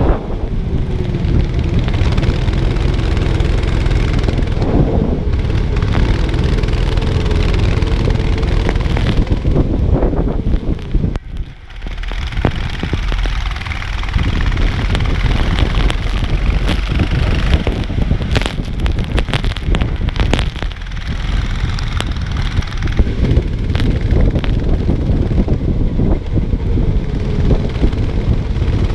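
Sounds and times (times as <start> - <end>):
kart engine running: 0.0 - 28.9
wind buffeting microphone: 0.0 - 28.9
sharp clicks and knocks: 0.8 - 9.8, 10.4 - 25.6.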